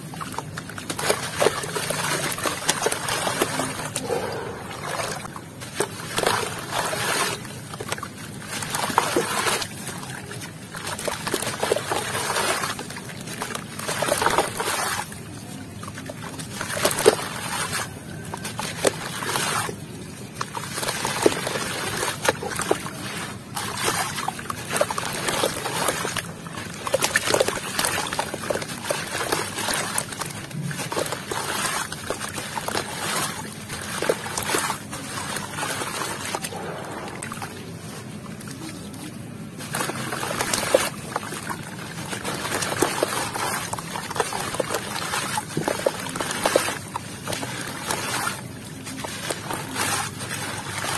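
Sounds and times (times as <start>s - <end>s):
water splashing and trickling: 0.0s - 50.9s.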